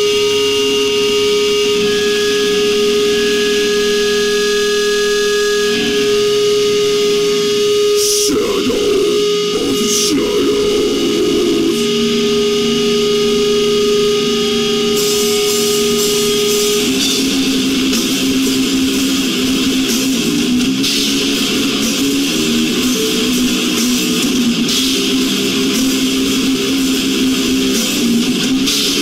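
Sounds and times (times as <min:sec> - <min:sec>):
distorted electric guitars: 0:00.0 - 0:29.0.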